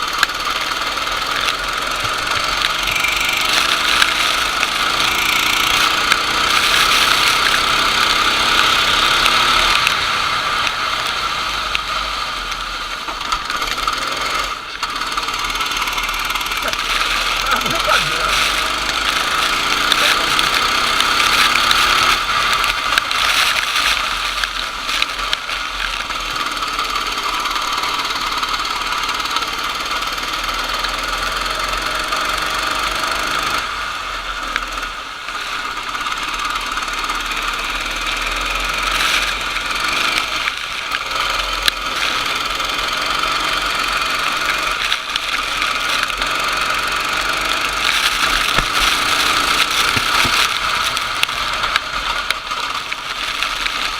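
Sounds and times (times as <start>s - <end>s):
kart engine running high: 0.0s - 53.9s.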